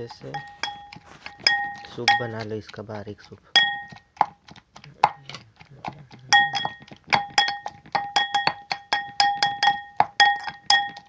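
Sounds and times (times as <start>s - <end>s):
pestle pounding in mortar: 0.0s - 11.0s.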